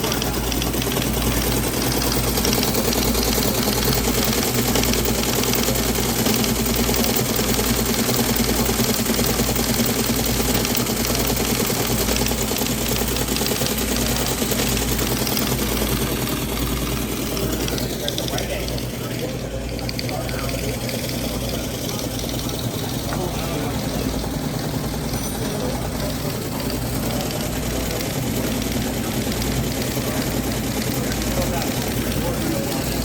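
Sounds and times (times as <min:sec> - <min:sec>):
motor hum: 0:00.0 - 0:33.0
teletype printer clattering: 0:00.0 - 0:33.0.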